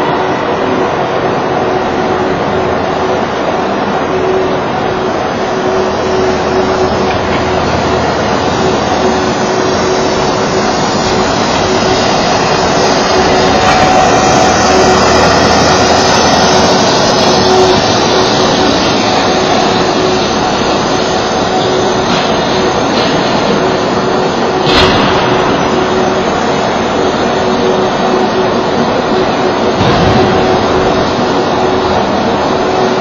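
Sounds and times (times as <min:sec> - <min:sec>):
ice resurfacer humming: 0:00.0 - 0:33.0.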